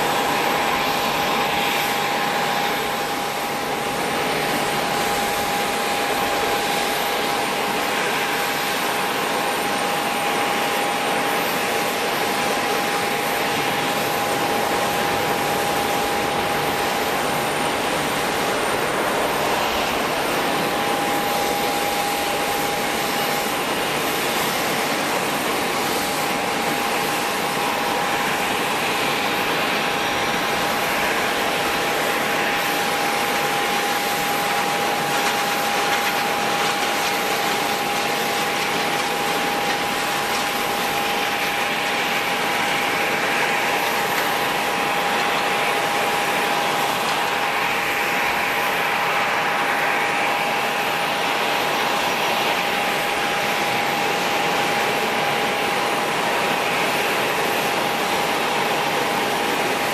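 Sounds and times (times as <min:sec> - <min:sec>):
jet engines running: 0:00.0 - 0:59.9.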